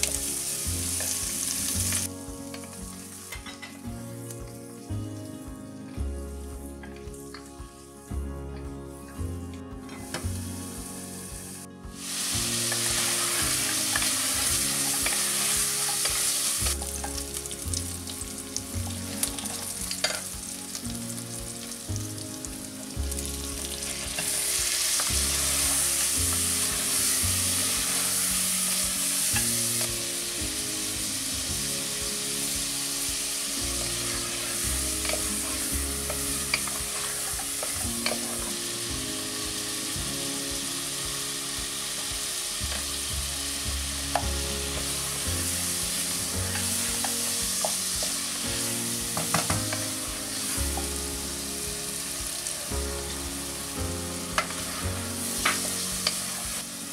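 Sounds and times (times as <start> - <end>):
meat and tomatoes sizzling: 0.0 - 56.9.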